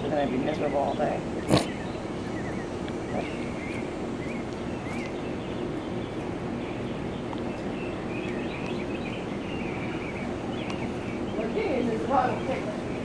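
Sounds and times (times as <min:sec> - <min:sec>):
background hum and hiss: 0:00.0 - 0:13.0
small birds chirping: 0:00.0 - 0:13.0.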